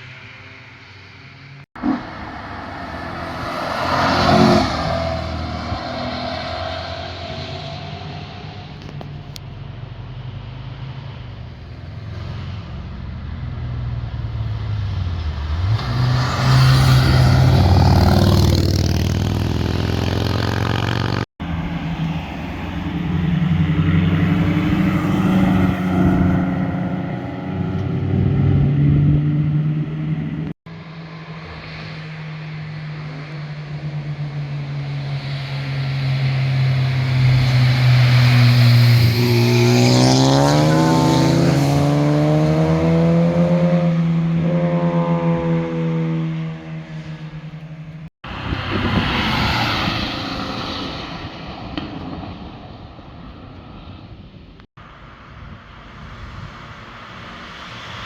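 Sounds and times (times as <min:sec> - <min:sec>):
sports cars passing by: 0:00.0 - 0:09.4, 0:10.2 - 0:52.5, 0:55.0 - 0:58.0.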